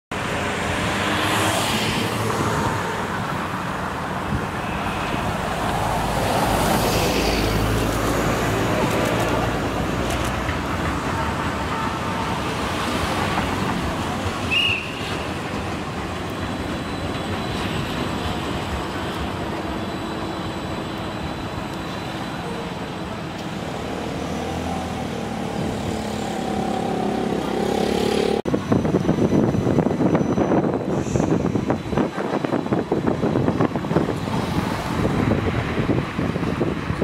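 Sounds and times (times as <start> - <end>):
road traffic noise: 0.1 - 37.0
tram running: 0.1 - 37.0
tram electric drive whining: 1.9 - 37.0.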